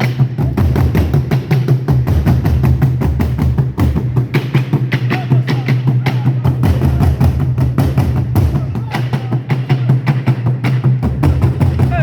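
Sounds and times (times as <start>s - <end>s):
drums in fast dense rhythm: 0.0s - 12.0s
deep low drum: 0.2s - 4.4s, 6.3s - 12.0s.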